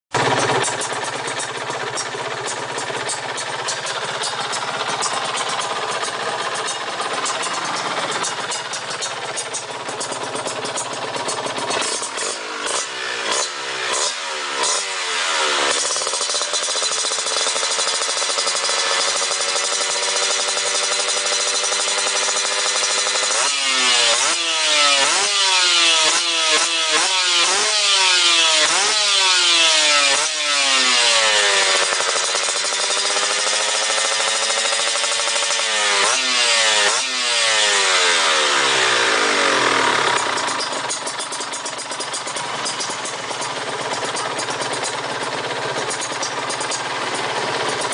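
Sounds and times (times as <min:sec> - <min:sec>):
motorcycle engine revving: 0:00.1 - 0:47.9.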